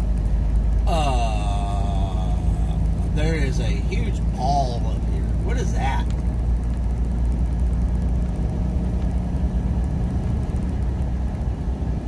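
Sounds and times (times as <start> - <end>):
diesel truck engine droning: 0.0 - 12.0
road noise: 0.0 - 12.0.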